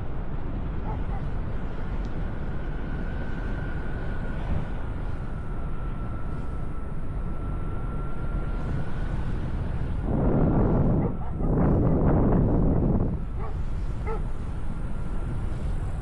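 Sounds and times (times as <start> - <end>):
heavy wind rush: 0.0 - 16.0
paramotor engine droning: 0.0 - 16.0.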